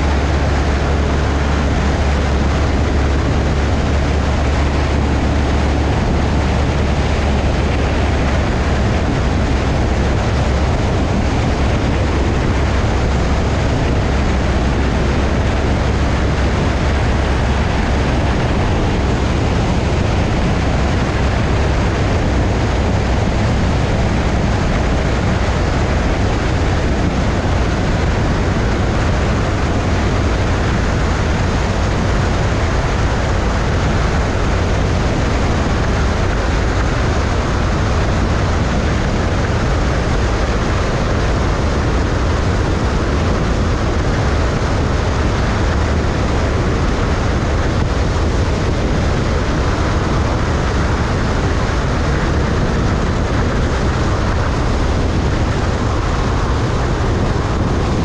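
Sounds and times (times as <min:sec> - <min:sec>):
airplane engine and propeller droning: 0:00.0 - 0:58.0
wind rush over microphone: 0:00.0 - 0:58.0.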